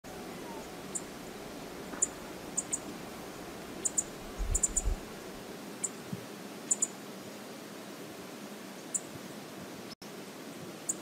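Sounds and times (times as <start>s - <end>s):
steady hiss: 0.1s - 11.0s.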